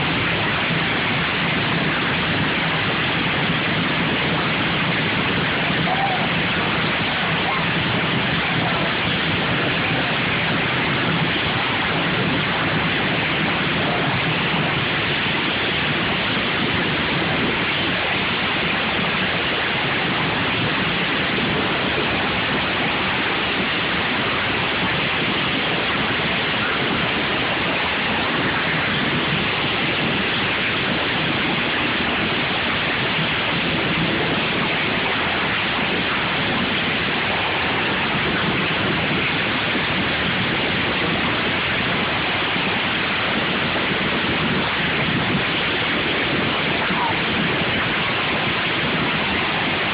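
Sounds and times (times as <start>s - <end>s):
lawn mower engines roaring: 0.0s - 49.9s.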